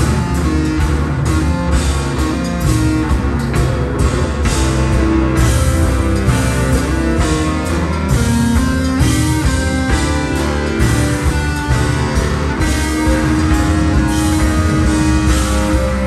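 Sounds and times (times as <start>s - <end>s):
electric bass solo: 0.0s - 16.0s
jazz fusion band playing: 0.0s - 16.0s.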